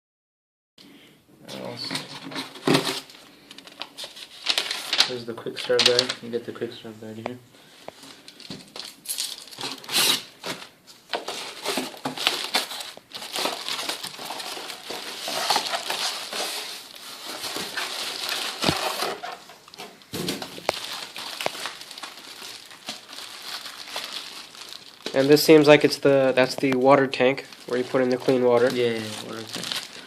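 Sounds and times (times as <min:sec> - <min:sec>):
packaging crinkling and crushing: 0:02.0 - 0:06.3, 0:07.9 - 0:30.0.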